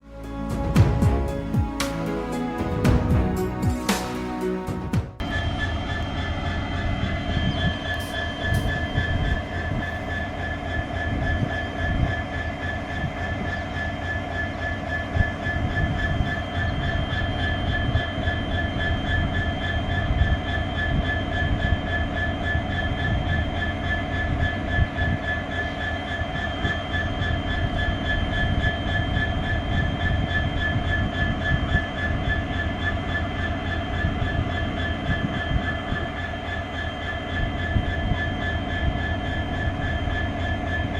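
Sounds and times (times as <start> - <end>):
steady high-pitched hum: 5.2 - 40.9.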